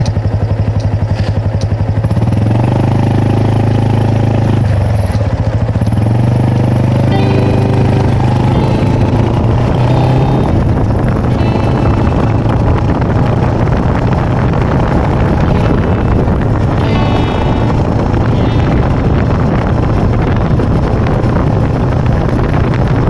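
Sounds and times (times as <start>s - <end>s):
motorcycle engine revving: 2.0s - 23.0s.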